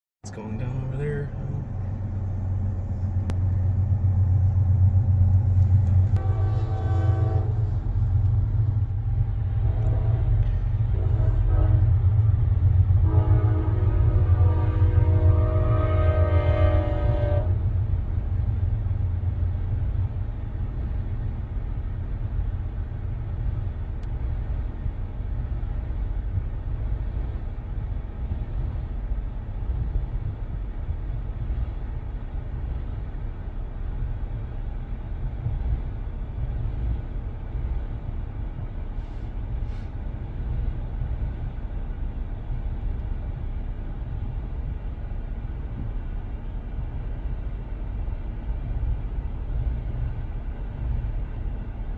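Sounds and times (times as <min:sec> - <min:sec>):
freight train rumbling past: 0:00.2 - 0:51.9.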